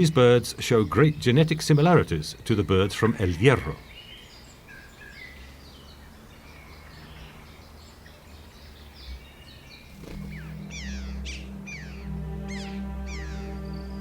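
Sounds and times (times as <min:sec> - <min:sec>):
music with held low notes: 0:00.0 - 0:14.0
songbirds chirping: 0:00.0 - 0:14.0
steady low hum: 0:00.0 - 0:14.0.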